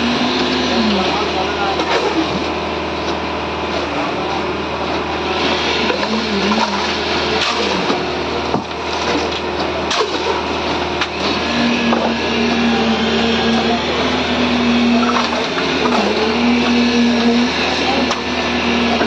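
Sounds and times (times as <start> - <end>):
concrete mixer engine running: 0.0 - 19.0.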